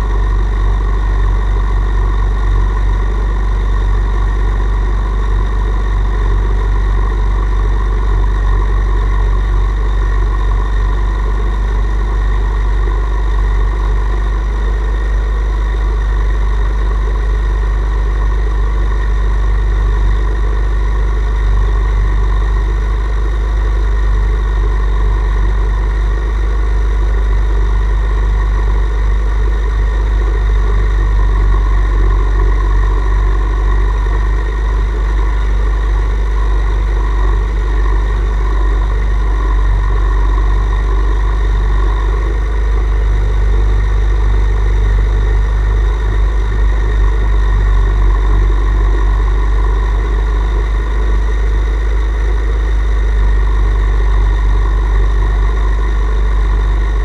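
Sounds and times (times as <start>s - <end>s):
steam model boat drone: 0.0s - 57.0s.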